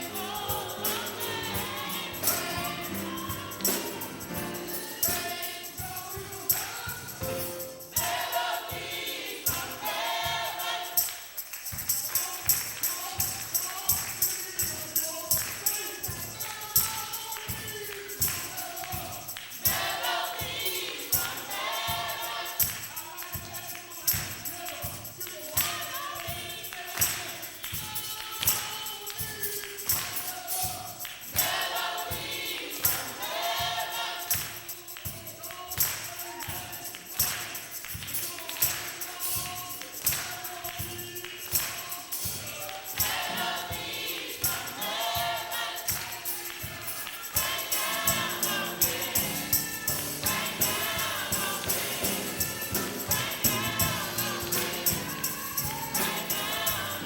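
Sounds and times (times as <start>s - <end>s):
gospel choir singing: 0.0s - 57.0s
percussion beat: 0.0s - 57.0s.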